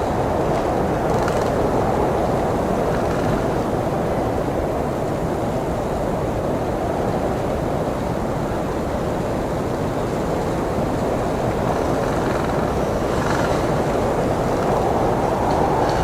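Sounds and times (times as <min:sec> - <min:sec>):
blizzard wind rushing: 0:00.0 - 0:16.0.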